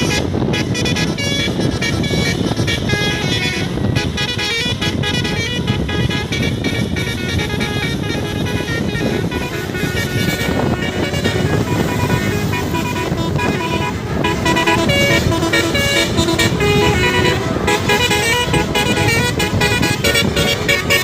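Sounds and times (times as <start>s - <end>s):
bus engine rumble: 0.0s - 21.0s
bus horn playing tune: 0.0s - 21.0s.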